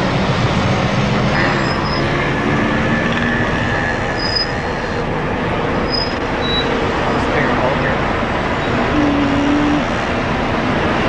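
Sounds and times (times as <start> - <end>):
city street traffic noise: 0.0 - 11.0.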